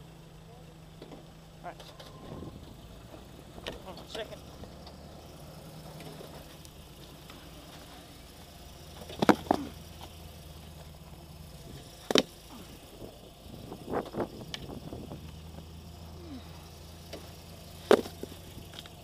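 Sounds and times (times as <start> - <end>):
engine humming at low revs: 0.0 - 19.0.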